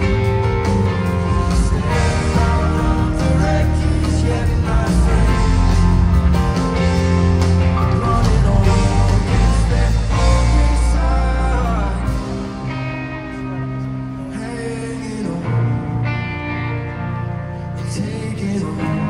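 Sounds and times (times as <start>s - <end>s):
live rock band: 0.0s - 19.0s.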